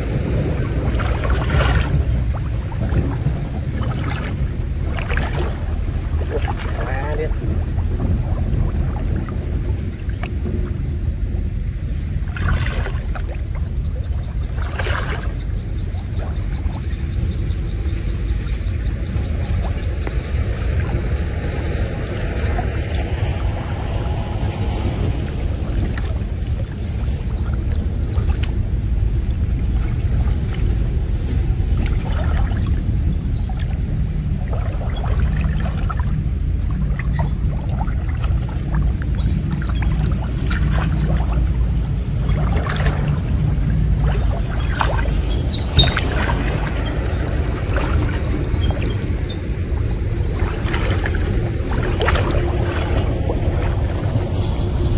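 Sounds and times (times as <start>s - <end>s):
steady low rumble: 0.0s - 54.9s
water splashing and dripping: 0.0s - 54.9s.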